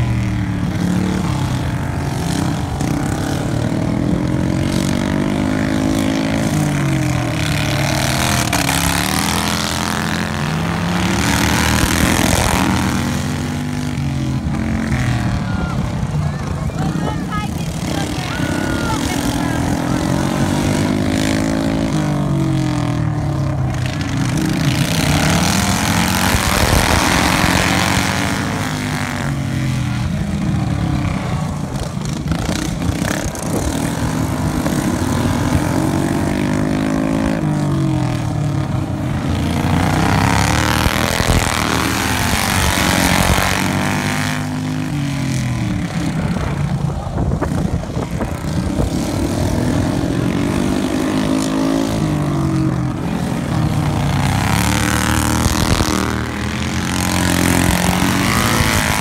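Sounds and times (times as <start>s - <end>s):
racing lawn mower engines: 0.0s - 59.0s.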